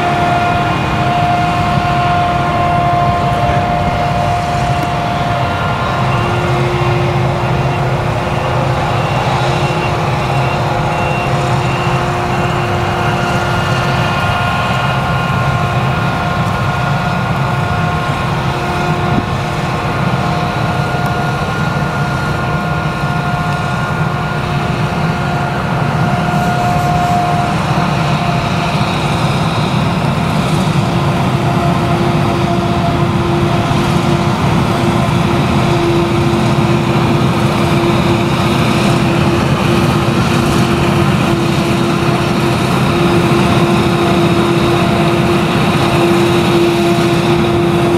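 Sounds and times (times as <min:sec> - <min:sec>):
forage harvester engine droning: 0:00.0 - 0:47.9.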